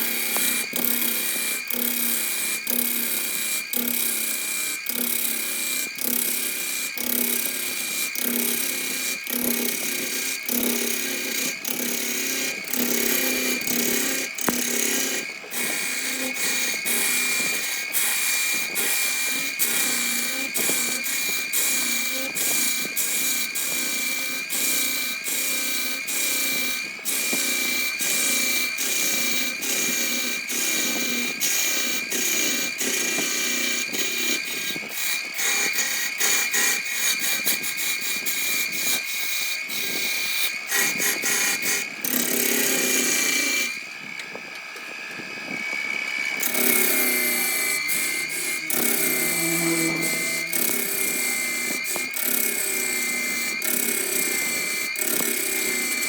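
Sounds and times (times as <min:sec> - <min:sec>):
scraping and chattering of cut: 0:00.0 - 0:43.8, 0:46.4 - 0:56.0
power tool whining: 0:00.0 - 0:56.0.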